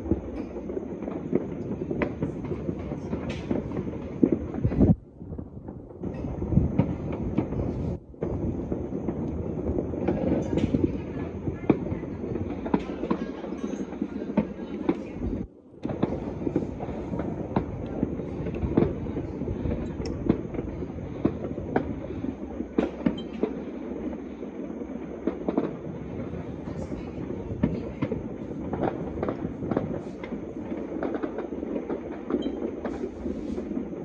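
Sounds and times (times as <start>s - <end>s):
distant fireworks crackle and rumble: 0.0s - 34.0s
sharp firework bangs: 0.0s - 34.0s.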